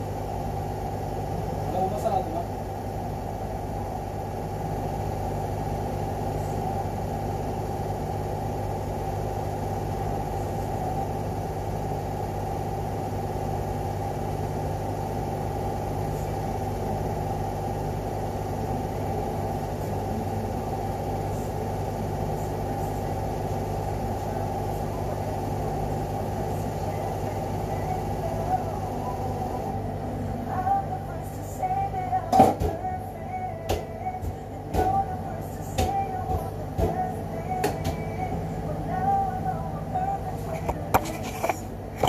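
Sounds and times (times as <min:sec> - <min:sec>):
low mechanical hum and rumble: 0:00.0 - 0:42.0.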